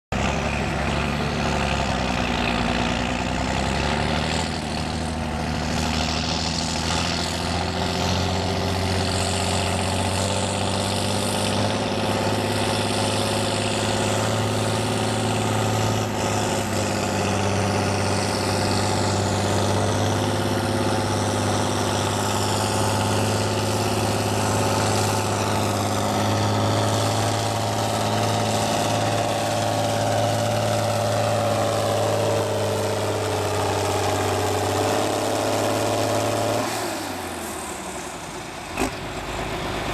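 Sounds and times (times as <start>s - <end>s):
tractor engine under load: 0.1s - 39.9s.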